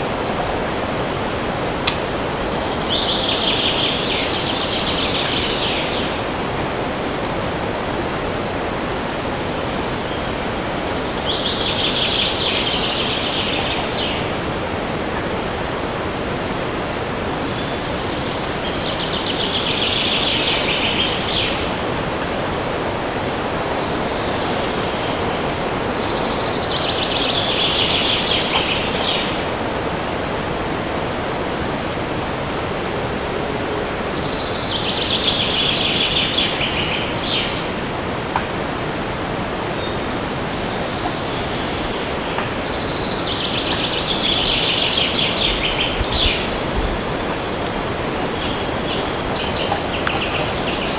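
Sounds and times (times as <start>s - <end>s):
songbird singing: 0.0s - 50.9s
wind rushing through trees: 0.0s - 50.9s.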